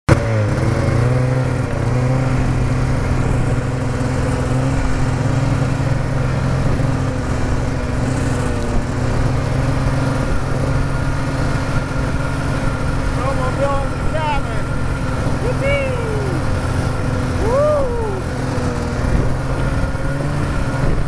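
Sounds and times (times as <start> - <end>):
snowmobile engine running: 0.1 - 21.0.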